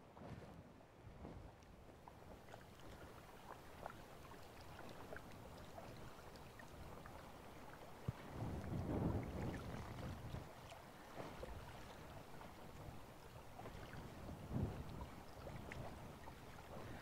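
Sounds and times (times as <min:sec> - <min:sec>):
small waves lapping against rocks: 0:01.5 - 0:17.0.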